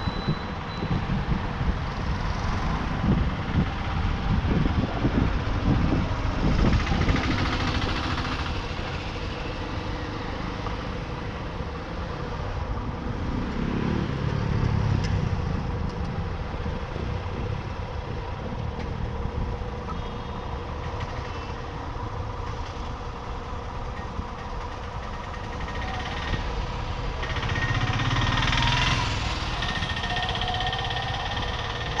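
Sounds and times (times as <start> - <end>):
heavy vehicle rumble: 0.0 - 32.0
street traffic: 0.0 - 32.0.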